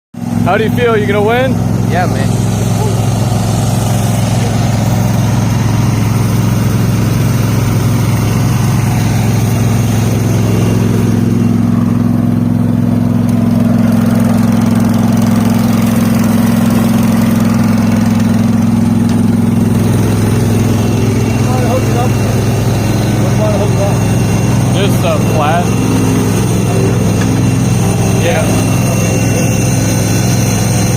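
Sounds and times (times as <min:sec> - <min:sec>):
garden tractor engine idling: 0:00.2 - 0:30.9.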